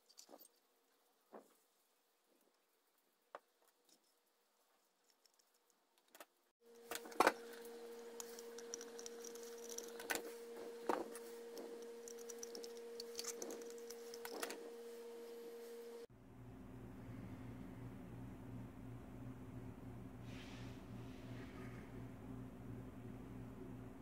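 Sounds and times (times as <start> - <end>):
low electrical hum: 3.8 - 24.0.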